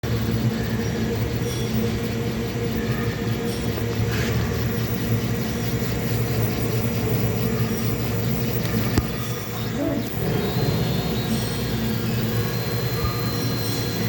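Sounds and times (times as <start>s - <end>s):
fan rushing: 0.0s - 14.0s
machine humming: 0.0s - 14.0s.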